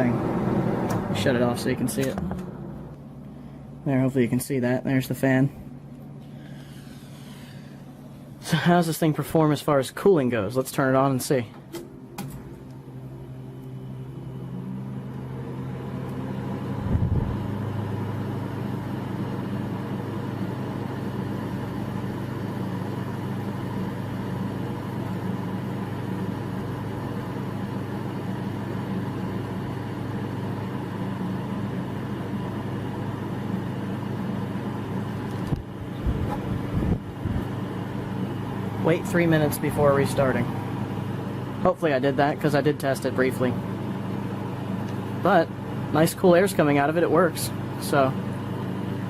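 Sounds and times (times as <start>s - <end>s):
air conditioner fan blowing: 0.0s - 49.0s.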